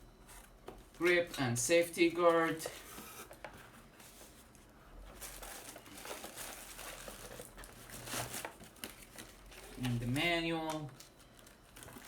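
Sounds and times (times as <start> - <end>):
plastic wrap crinkling: 2.2 - 12.0.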